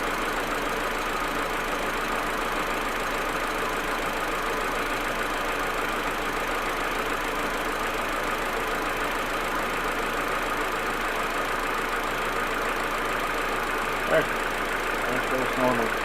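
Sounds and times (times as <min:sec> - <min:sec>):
car engine idling roughly: 0:00.0 - 0:16.0.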